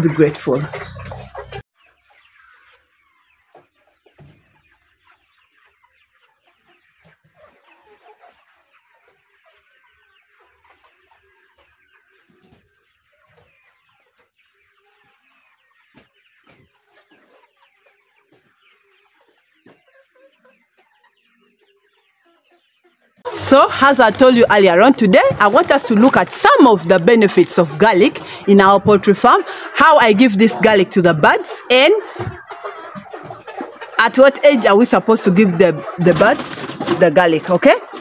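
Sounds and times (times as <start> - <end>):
hens clucking: 0.0 - 38.0.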